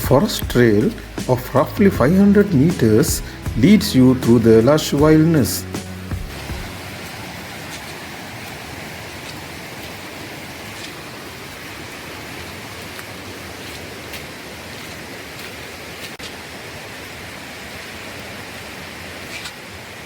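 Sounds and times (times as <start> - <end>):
rush of flowing water: 0.0 - 20.0.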